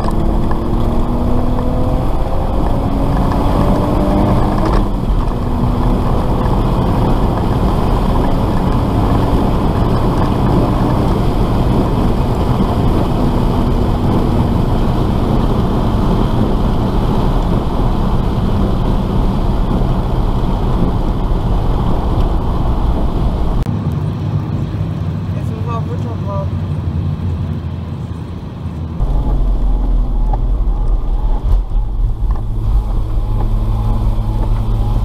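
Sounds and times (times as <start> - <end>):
car engine running: 0.0 - 23.7, 28.1 - 35.0.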